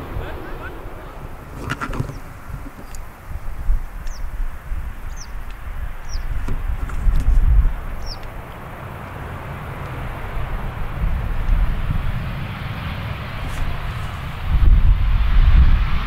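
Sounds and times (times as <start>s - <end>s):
jet engines rushing: 0.0s - 16.0s
wind rumbling on microphone: 0.0s - 16.0s.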